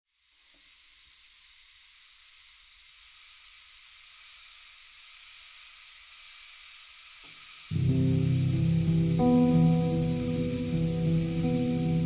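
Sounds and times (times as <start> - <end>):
steady high hiss: 0.1 - 12.0.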